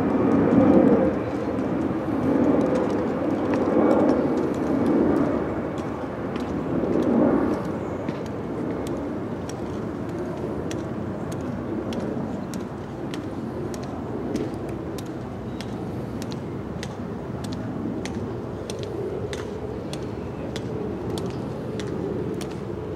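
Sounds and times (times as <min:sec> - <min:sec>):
outdoor background rumble: 0:00.0 - 0:22.9.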